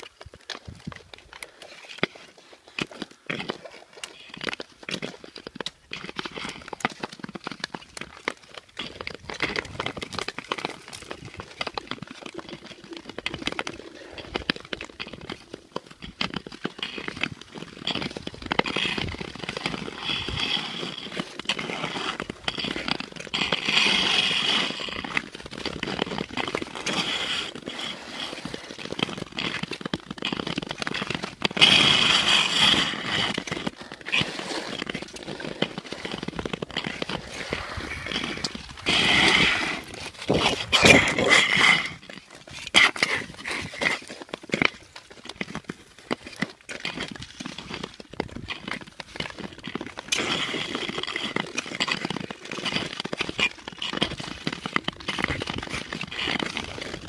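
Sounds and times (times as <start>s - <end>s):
ice clicking and crackling: 0.0s - 57.0s
skates scraping on ice: 0.0s - 57.0s.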